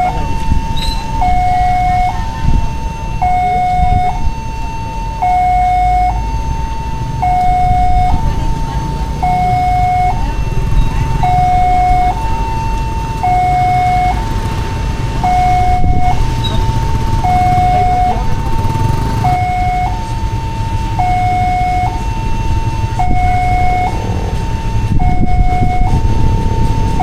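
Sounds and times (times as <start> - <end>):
two-tone crossing alarm: 0.0 - 27.0.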